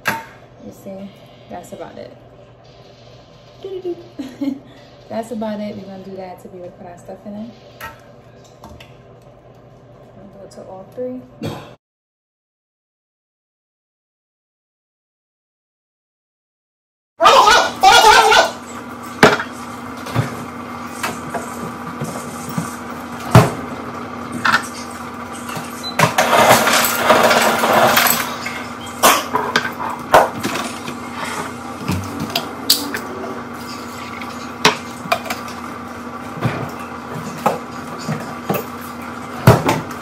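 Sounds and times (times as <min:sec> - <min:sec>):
steady low hum: 0:00.0 - 0:11.8, 0:18.6 - 0:40.0.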